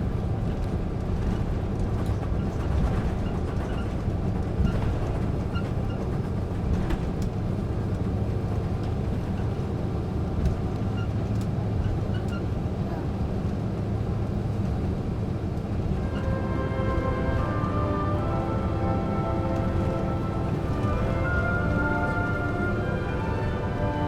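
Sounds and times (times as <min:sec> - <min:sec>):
airliner cabin low rumble: 0:00.0 - 0:24.0.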